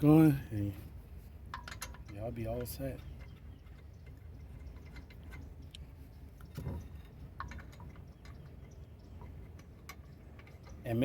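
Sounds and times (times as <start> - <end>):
low steady hum: 0.0 - 11.0
metallic clicks of lug nuts: 1.5 - 10.8.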